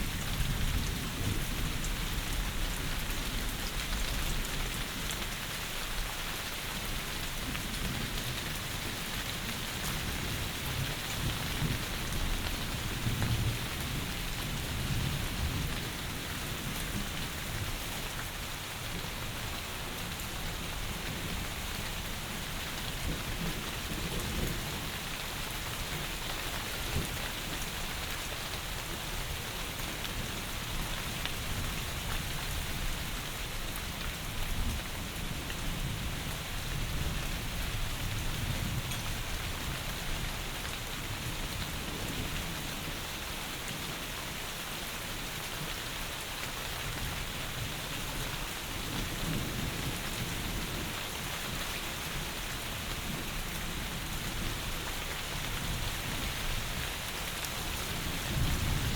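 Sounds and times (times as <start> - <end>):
heavy rain hissing: 8.7 - 58.9.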